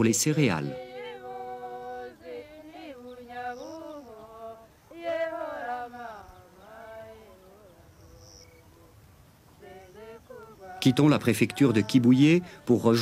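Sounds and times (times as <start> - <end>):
person singing slow melody: 0.6 - 13.0.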